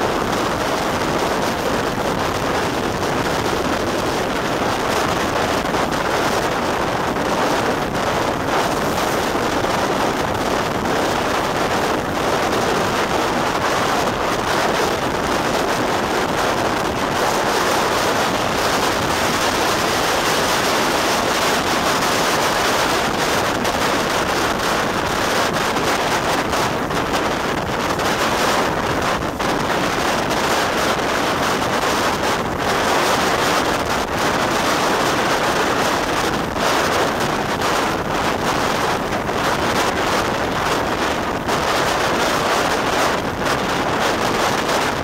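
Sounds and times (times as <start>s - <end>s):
wind on microphone: 0.0s - 45.0s.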